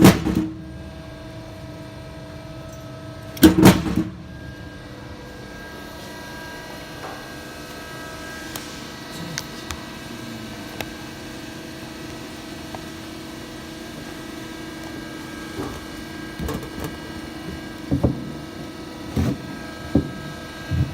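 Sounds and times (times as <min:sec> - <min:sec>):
saw machine humming: 0:00.0 - 0:20.9.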